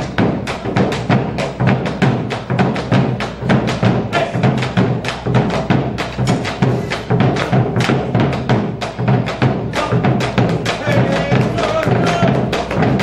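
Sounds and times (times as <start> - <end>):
dancers stamping heels: 0.0 - 13.0
music with pulsing drum beat: 0.0 - 13.0.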